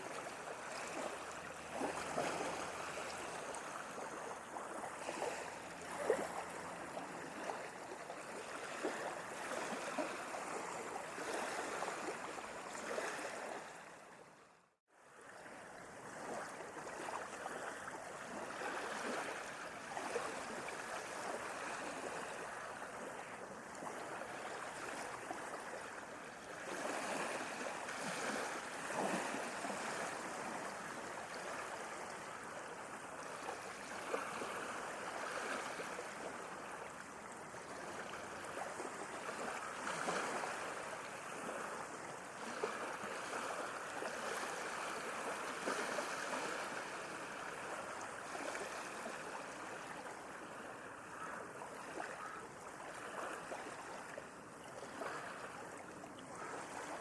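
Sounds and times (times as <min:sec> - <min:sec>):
sea water lapping and splashing: 0:00.0 - 0:57.0.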